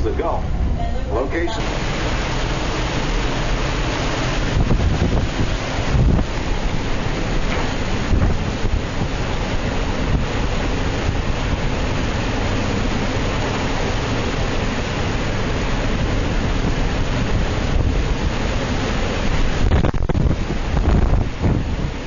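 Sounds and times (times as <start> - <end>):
strong wind blowing: 0.0 - 22.0
wind buffeting microphone: 0.0 - 22.0.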